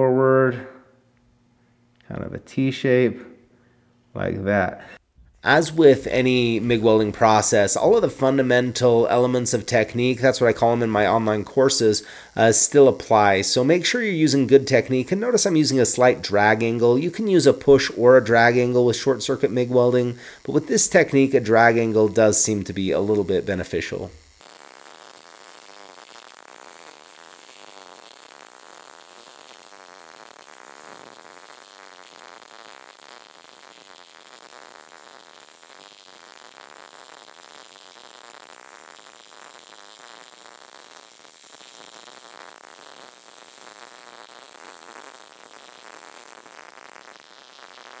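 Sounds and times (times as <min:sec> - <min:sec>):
welding arc crackling: 0:04.9 - 0:48.0.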